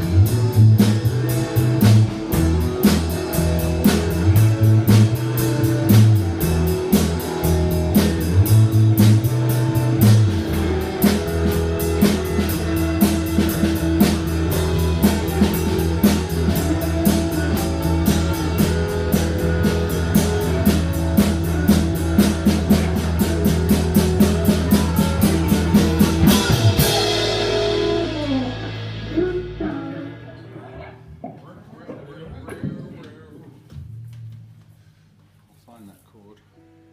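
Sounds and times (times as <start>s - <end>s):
live rock band playing: 0.0s - 31.1s.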